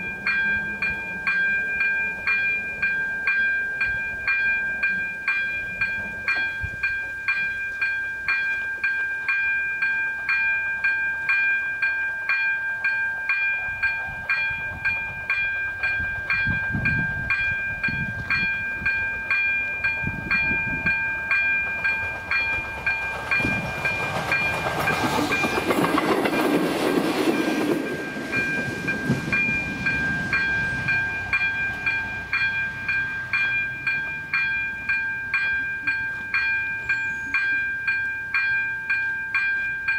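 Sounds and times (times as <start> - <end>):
passing train rumble: 0.0 - 9.4, 12.8 - 39.9
electronic warning bell ringing: 0.0 - 26.6, 27.3 - 39.9.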